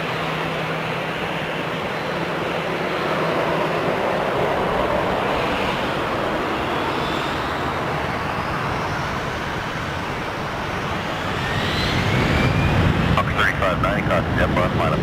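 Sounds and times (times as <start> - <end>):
airliner engines running: 0.0 - 15.0
engine whine shifting in pitch: 1.5 - 15.0.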